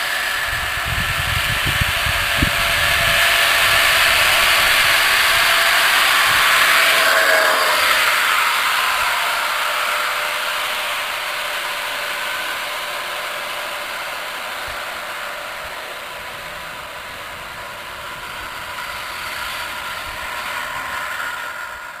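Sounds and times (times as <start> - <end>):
zip-line trolley whirring on cable: 0.0 - 22.0.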